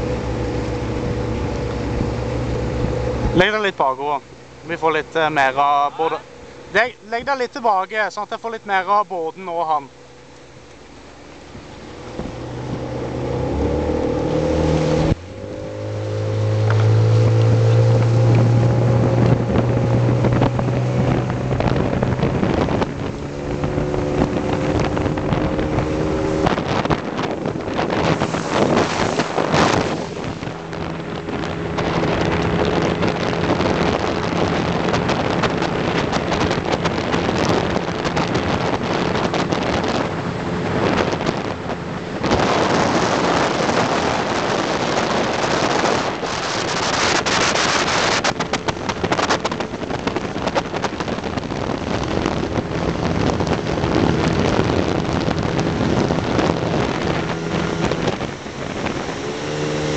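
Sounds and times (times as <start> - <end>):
motorboat engine running: 0.0 - 59.9
water rushing: 0.0 - 59.9
wind buffeting microphone: 0.0 - 59.9.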